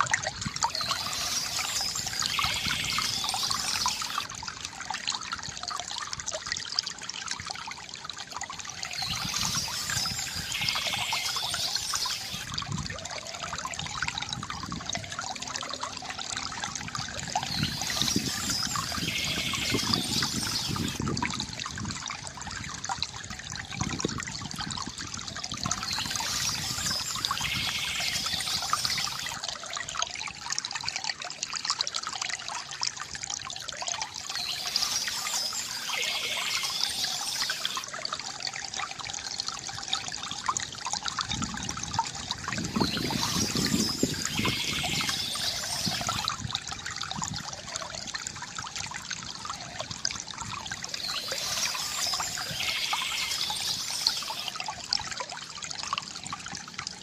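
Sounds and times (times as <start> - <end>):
water pouring from bamboo spout: 0.0 - 57.0.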